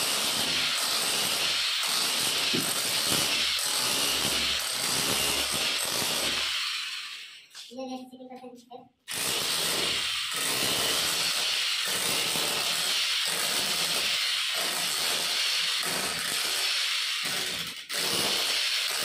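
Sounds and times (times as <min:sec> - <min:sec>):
demolition hammer chipping brick: 0:00.0 - 0:06.8, 0:09.1 - 0:19.0.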